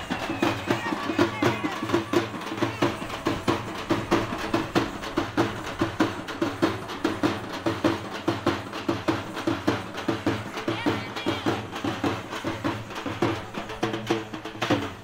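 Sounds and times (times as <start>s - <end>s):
drums beaten fast: 0.0s - 15.0s.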